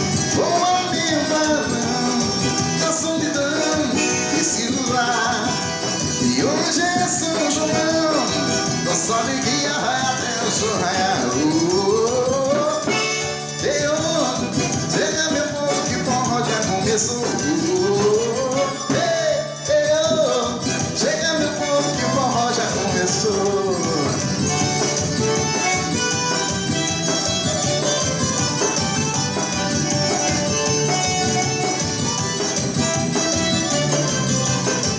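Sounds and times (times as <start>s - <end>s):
band playing forro music: 0.0s - 34.9s.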